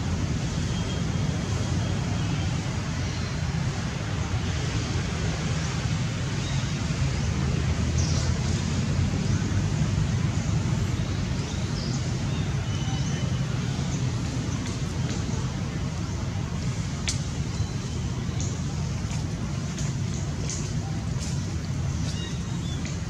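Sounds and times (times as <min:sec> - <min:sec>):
low rumbling background noise: 0:00.0 - 0:23.0.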